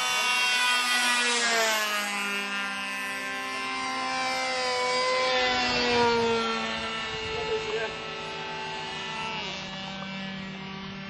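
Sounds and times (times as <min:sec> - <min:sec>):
model airplane engines whining: 0:00.0 - 0:11.0.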